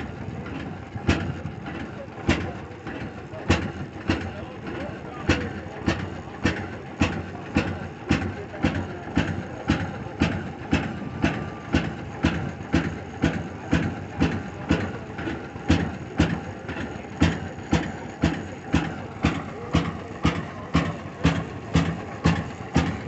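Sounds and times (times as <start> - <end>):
old gas engine exhaust pops: 0.0 - 23.0.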